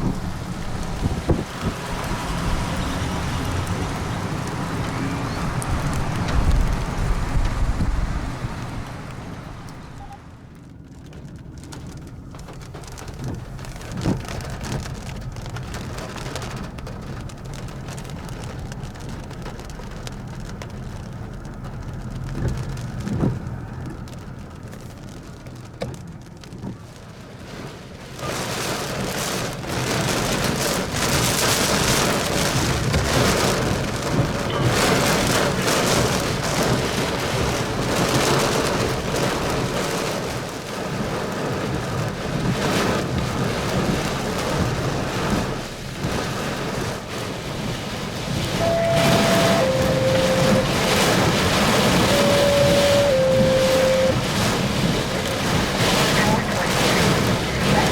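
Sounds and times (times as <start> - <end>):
thunder rumbling: 0.0 - 25.5, 29.8 - 57.9
rain: 0.0 - 57.9.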